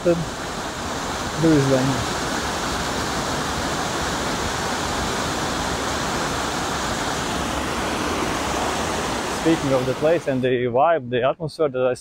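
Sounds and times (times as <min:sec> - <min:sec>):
stream rushing over rocks: 0:00.0 - 0:10.4.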